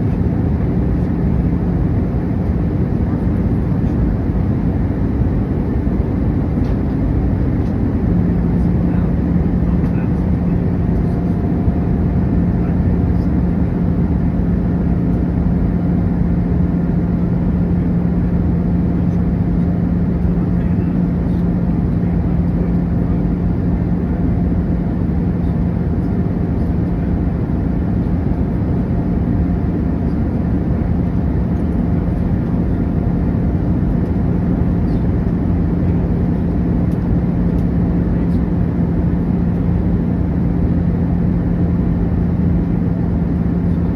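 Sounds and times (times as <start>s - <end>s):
airplane cabin drone: 0.0s - 43.9s.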